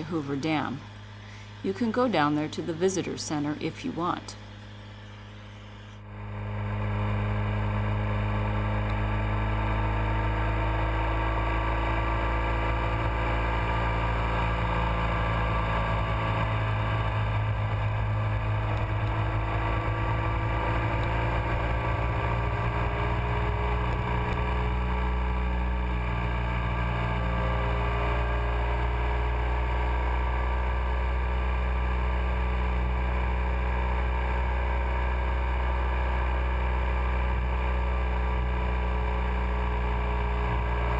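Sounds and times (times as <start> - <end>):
motorcycle engine running: 4.4 - 40.9.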